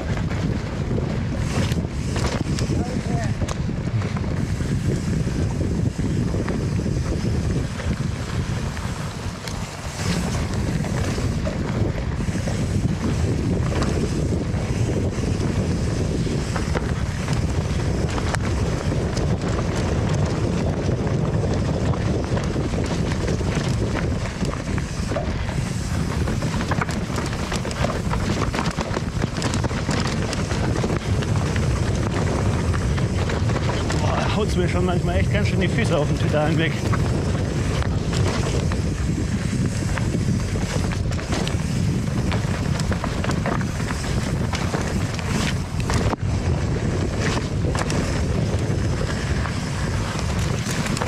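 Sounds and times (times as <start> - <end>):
bike clicks and rattles: 0.0 - 51.0
tyre rumble: 0.0 - 51.0
wind buffeting microphone: 0.0 - 51.0.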